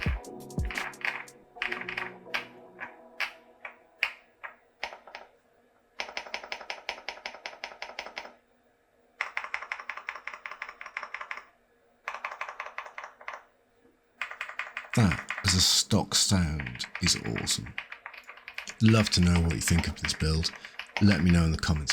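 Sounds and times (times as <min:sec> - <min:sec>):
mechanical keyboard typing: 0:00.0 - 0:05.3, 0:06.0 - 0:08.4, 0:09.2 - 0:11.5, 0:12.1 - 0:13.5, 0:14.2 - 0:15.7, 0:16.6 - 0:21.9.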